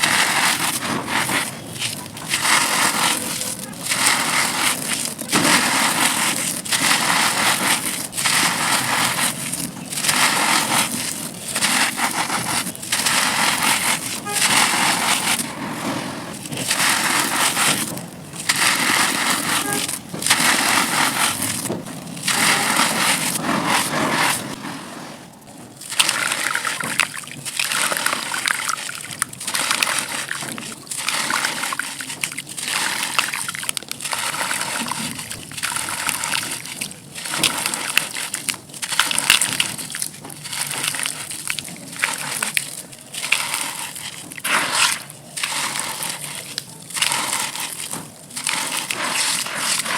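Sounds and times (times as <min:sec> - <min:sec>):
dry dirt crunching: 0:00.0 - 0:24.8, 0:25.4 - 0:49.9.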